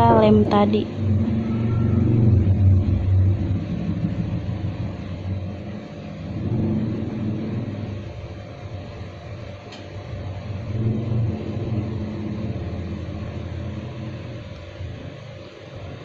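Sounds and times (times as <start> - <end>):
low wavering rumble: 0.0 - 16.0.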